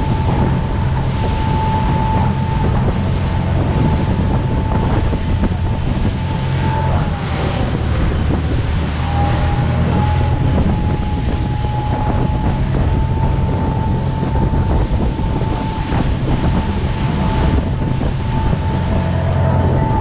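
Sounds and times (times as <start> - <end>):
boat engines droning: 0.0 - 20.0
rush of spray from wake: 0.0 - 20.0
wind buffeting microphone: 0.0 - 20.0.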